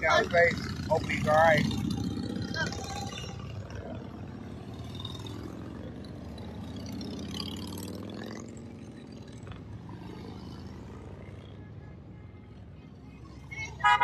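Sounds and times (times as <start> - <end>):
vehicle engines humming: 0.0 - 14.0.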